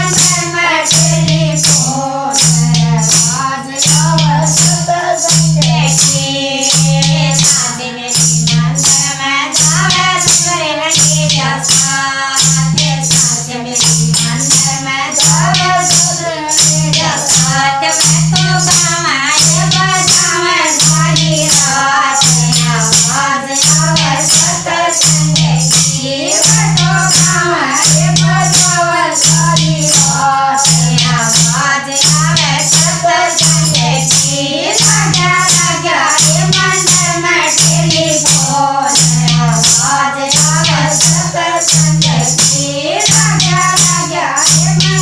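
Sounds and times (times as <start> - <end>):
person singing: 0.0 - 45.0
shaken percussion: 0.0 - 45.0.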